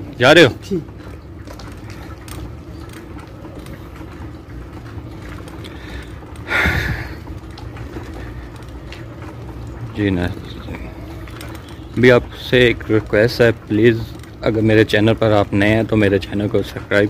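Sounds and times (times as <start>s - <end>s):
bicycle tyres rumbling on road: 0.0s - 17.0s.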